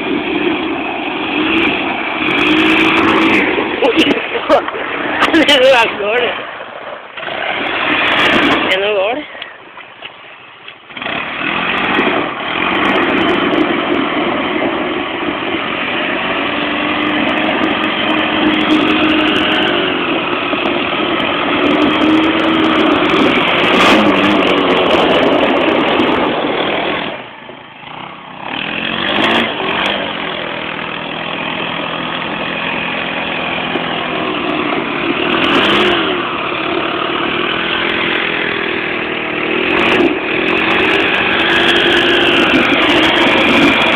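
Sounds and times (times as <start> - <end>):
atv engine revving: 0.0 - 43.9.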